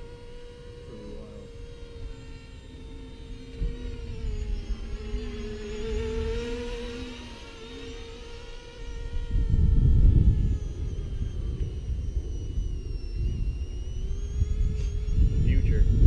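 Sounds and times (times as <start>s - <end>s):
rc plane propellers buzzing: 0.0s - 16.0s.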